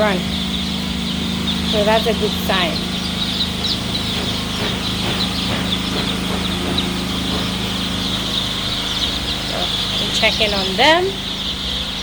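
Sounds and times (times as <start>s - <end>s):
chicks peeping: 0.0s - 12.0s
low mechanical hum: 0.0s - 12.0s.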